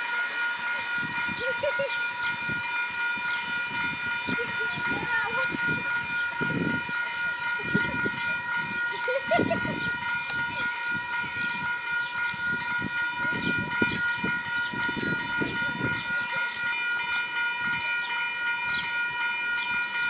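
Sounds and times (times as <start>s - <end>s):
level crossing warning bells: 0.0s - 20.0s.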